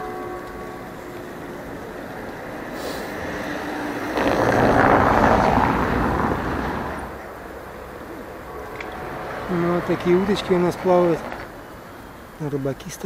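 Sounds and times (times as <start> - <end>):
vehicle passing by: 0.9 - 12.4.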